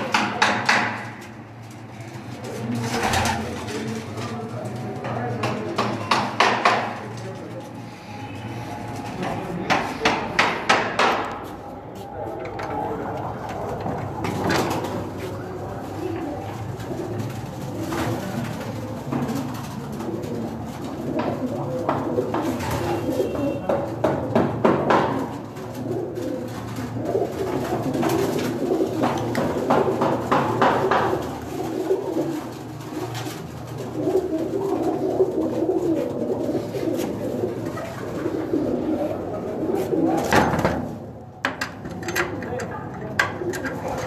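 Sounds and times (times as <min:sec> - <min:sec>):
pigeons cooing: 0:00.0 - 0:44.0.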